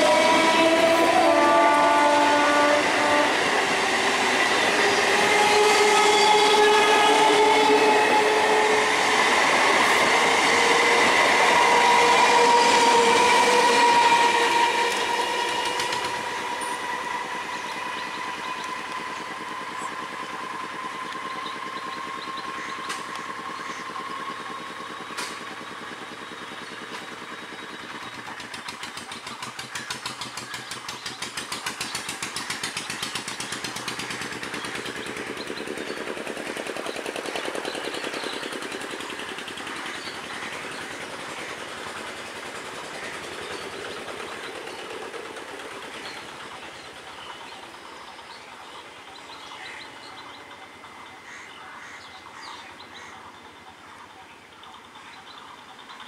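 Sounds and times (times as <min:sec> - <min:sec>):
train wheels beating over rails: 0:00.0 - 0:53.9.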